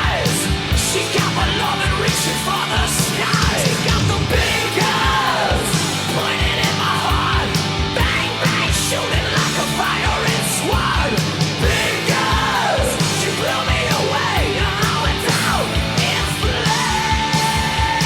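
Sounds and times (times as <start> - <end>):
heavy metal music: 0.0 - 18.0
sliding lead guitar line: 0.0 - 18.0.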